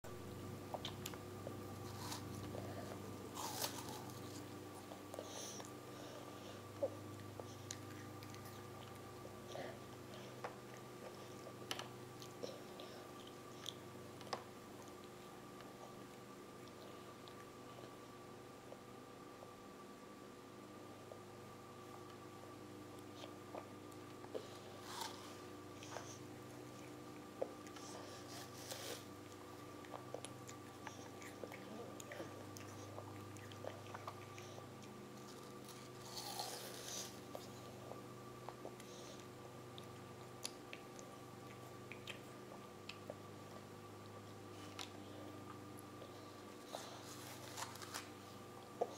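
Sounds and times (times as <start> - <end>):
faint hum: 0.0 - 48.9
child chewing with mouth smacks: 0.6 - 19.6, 21.8 - 48.9.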